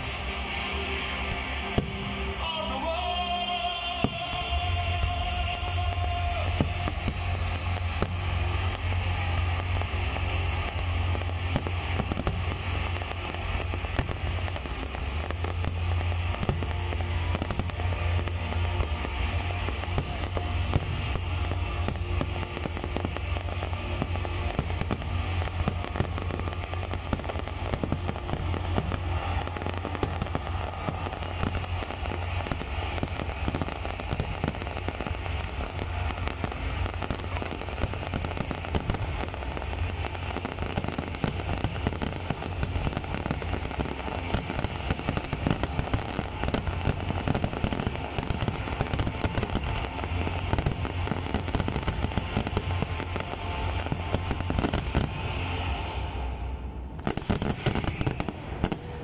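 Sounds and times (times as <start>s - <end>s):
fireworks bursting and crackling: 0.0s - 59.0s
low rumble: 0.0s - 59.0s.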